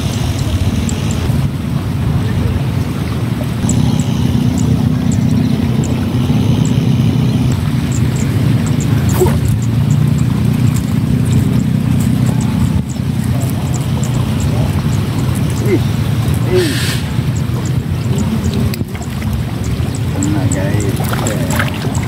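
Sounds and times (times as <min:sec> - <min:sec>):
low motor drone: 0:00.0 - 0:22.0
faint high ticks: 0:03.6 - 0:22.0.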